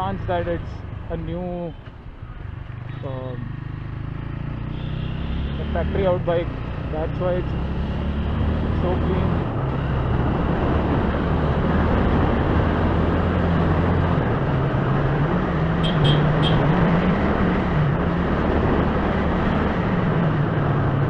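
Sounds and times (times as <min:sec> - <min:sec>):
wind and road noise: 0:00.0 - 0:21.0
motorcycle engine accelerating: 0:02.6 - 0:21.0.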